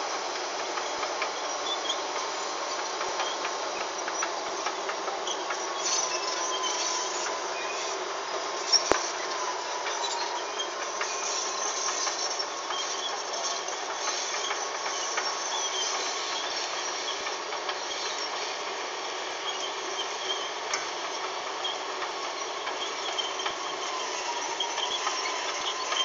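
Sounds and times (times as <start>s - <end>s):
heavy machinery noise: 0.0s - 26.0s.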